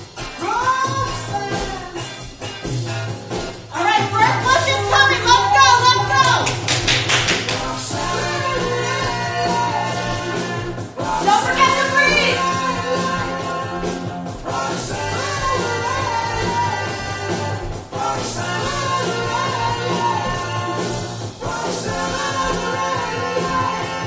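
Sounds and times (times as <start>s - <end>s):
song with sung vocals: 0.0s - 24.0s.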